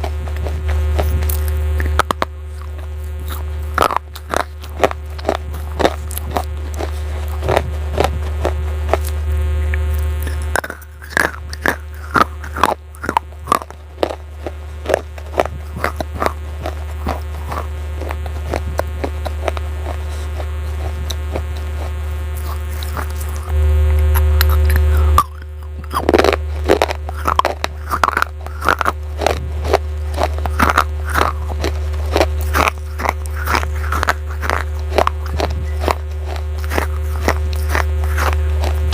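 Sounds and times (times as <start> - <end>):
clay pieces crunching in mouth: 0.0 - 38.9
steady low hum: 0.0 - 38.9.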